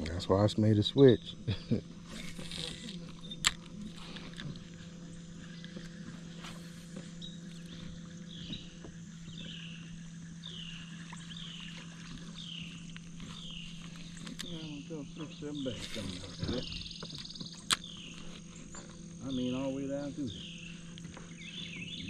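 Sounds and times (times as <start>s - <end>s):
electric trolling motor hum: 0.0s - 22.0s.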